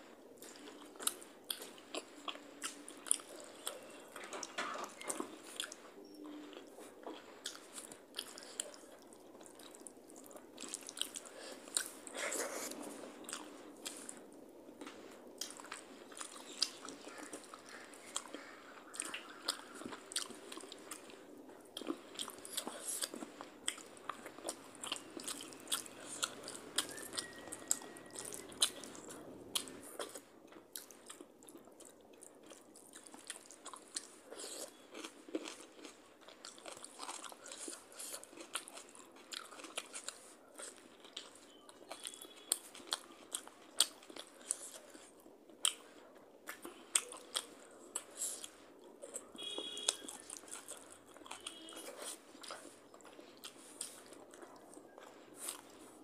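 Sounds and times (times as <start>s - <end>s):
wet chewing and mouth sounds: 0.0s - 56.0s.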